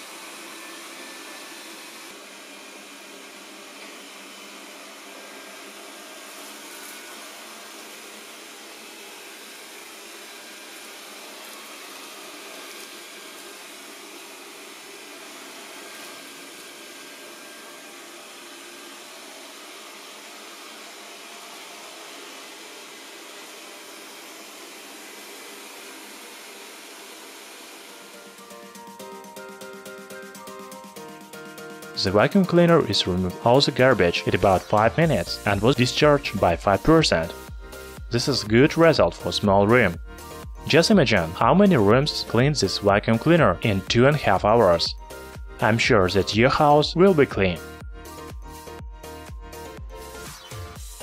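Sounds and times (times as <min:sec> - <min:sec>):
robot vacuum cleaner whirring: 0:00.0 - 0:41.6.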